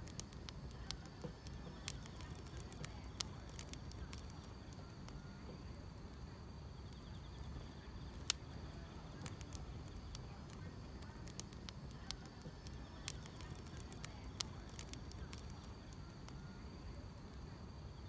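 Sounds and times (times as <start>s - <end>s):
wood fire crackling and popping: 0.0s - 17.5s
insects trilling: 0.0s - 18.0s.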